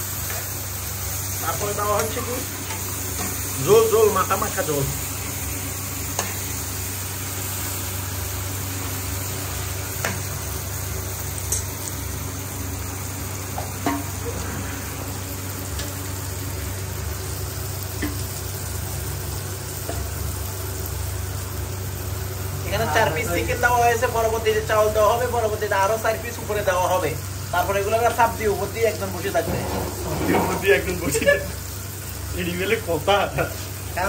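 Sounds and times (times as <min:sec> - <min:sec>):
steady hiss with low hum: 0:00.0 - 0:34.0.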